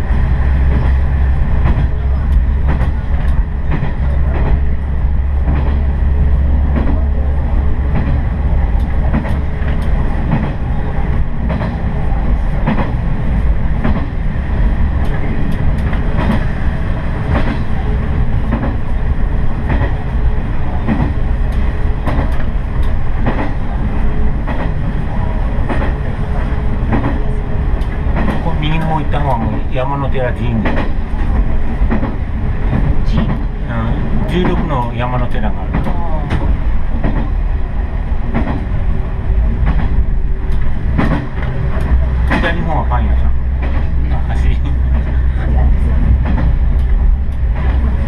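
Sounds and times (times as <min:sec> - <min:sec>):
railcar engine rumble: 0:00.0 - 0:48.0.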